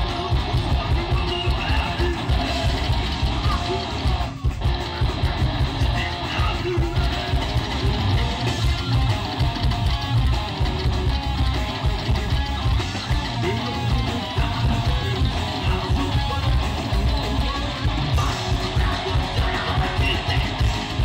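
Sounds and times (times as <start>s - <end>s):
drum kit: 0.0s - 21.0s
electric guitar: 0.0s - 21.0s
live rock band playing: 0.0s - 21.0s.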